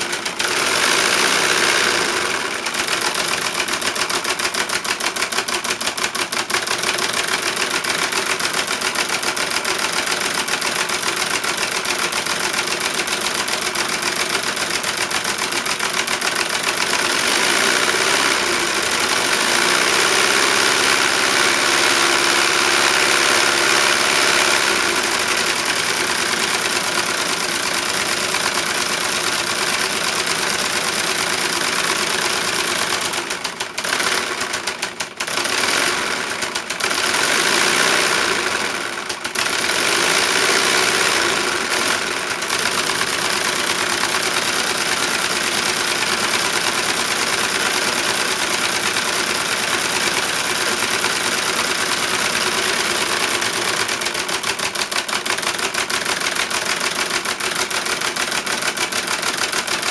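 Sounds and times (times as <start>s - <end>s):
model engine clattering: 0.0s - 59.9s.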